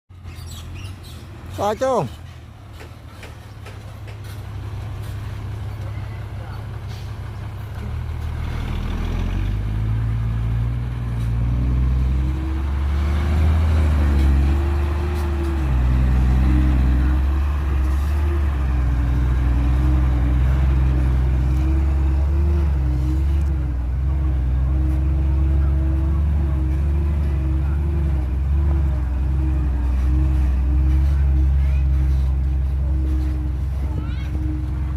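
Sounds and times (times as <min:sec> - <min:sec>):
heavy diesel engine running: 0:01.4 - 0:34.9.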